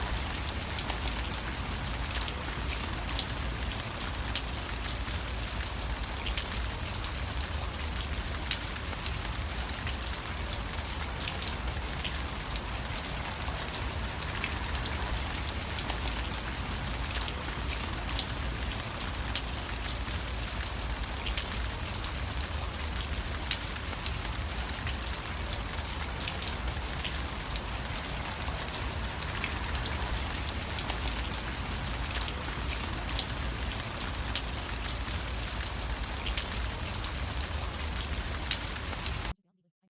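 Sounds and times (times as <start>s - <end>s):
rain pattering on a surface: 0.0s - 39.4s.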